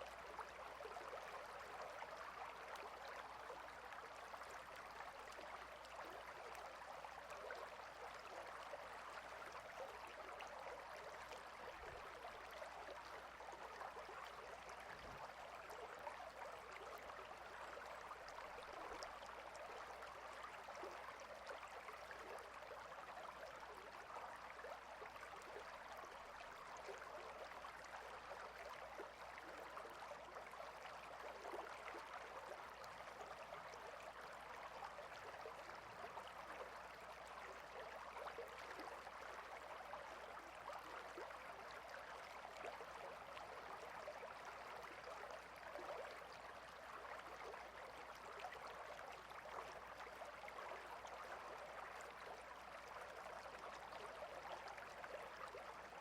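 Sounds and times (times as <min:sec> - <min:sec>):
faint stream water flowing: 0:00.0 - 0:56.0.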